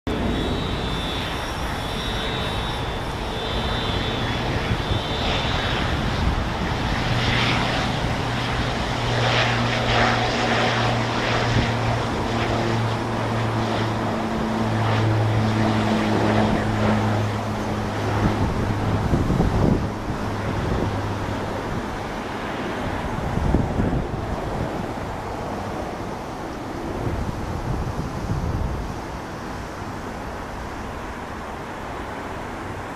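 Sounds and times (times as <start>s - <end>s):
high turbine whine: 0.0s - 32.9s
propeller drone: 0.0s - 32.9s.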